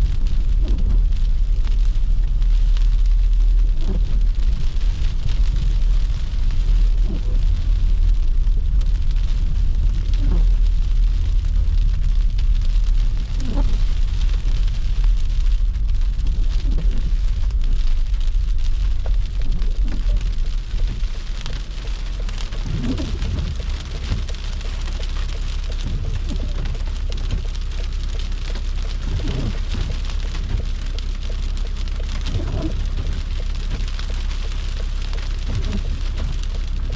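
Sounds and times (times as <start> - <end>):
car rumbling: 0.0 - 36.9.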